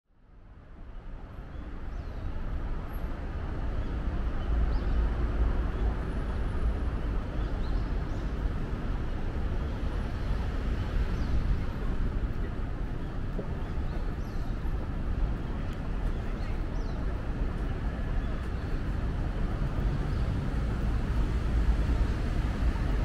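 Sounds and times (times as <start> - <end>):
city street traffic rumble: 0.1 - 23.0.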